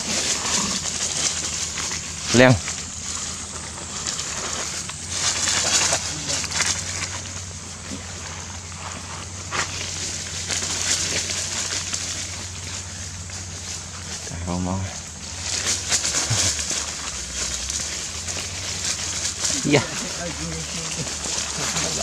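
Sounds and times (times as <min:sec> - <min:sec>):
dry leaves crackling and rustling: 0:00.0 - 0:22.0
steady low hum: 0:00.0 - 0:22.0.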